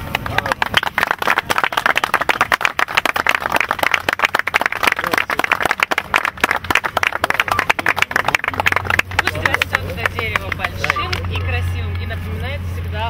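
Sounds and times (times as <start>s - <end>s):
people applauding: 0.0s - 11.4s.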